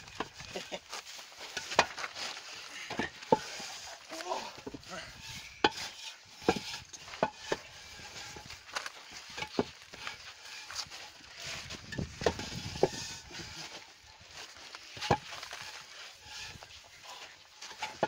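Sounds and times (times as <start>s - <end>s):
masonry blocks knocking and scraping: 0.0s - 18.0s.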